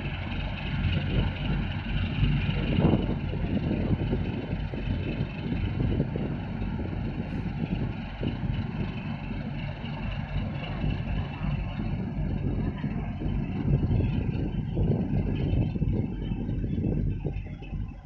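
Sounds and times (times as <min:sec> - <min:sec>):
diesel engine low rumble: 0:00.0 - 0:18.0
faint steady drone: 0:00.0 - 0:18.0.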